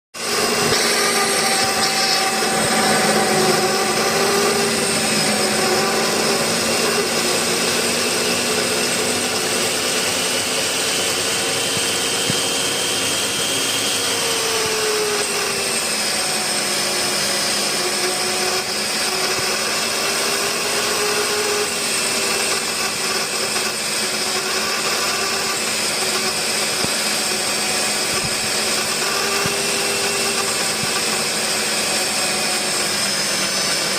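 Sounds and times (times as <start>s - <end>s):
drill boring through metal: 0.2s - 33.9s.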